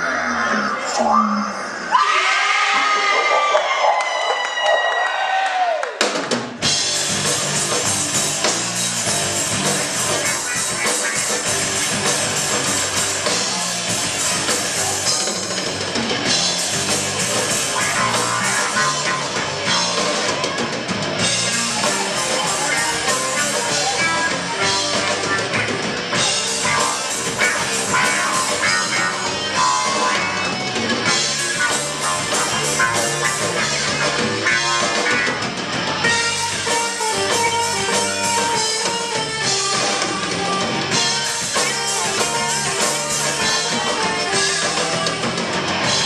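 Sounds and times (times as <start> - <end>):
drum kit: 5.8 - 46.0
electric guitars: 6.4 - 46.0.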